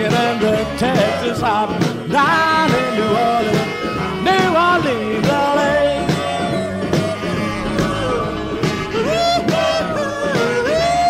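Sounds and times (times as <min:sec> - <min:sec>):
rock and roll song: 0:00.0 - 0:11.0.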